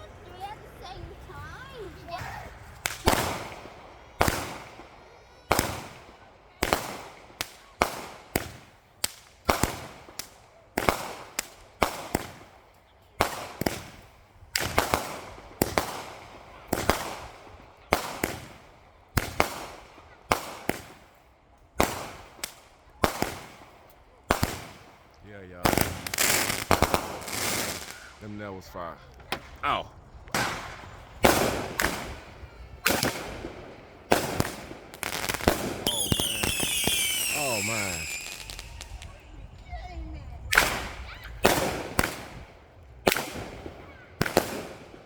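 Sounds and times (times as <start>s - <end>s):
fireworks bangs: 0.0s - 21.2s, 21.8s - 45.0s.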